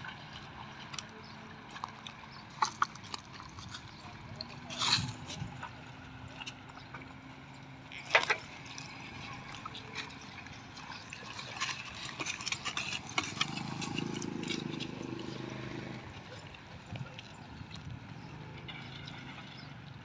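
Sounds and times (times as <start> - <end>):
cattle feeding: 0.0 - 7.2, 7.9 - 18.4.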